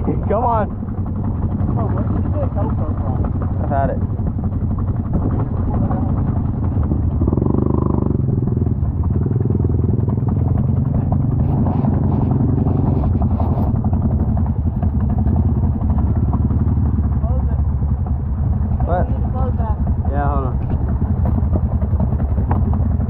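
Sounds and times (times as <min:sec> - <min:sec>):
atv engine running and revving: 0:00.0 - 0:23.0.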